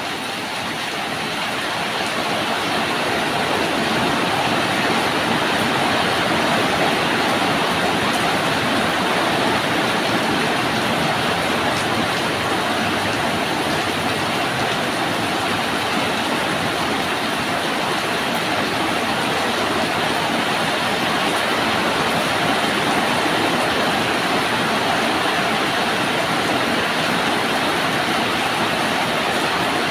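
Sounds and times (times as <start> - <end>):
rain falling steadily: 0.0 - 29.9.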